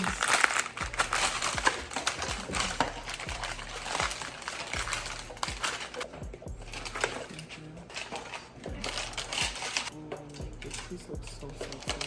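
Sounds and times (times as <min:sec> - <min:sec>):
parchment paper crunching: 0:00.0 - 0:12.0.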